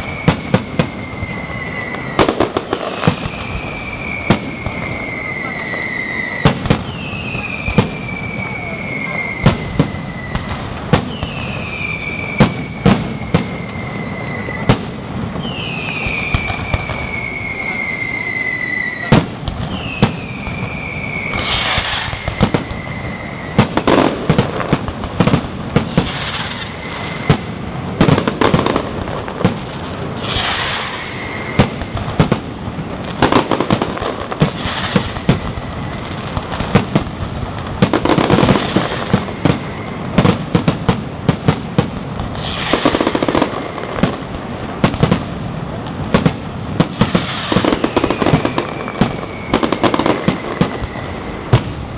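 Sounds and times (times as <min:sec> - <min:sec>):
firework whistles falling in pitch: 0:00.0 - 0:32.5, 0:33.1 - 0:37.0, 0:37.8 - 0:45.3, 0:46.1 - 0:51.9
firework bangs: 0:00.0 - 0:51.9
firework crackling: 0:00.0 - 0:51.9.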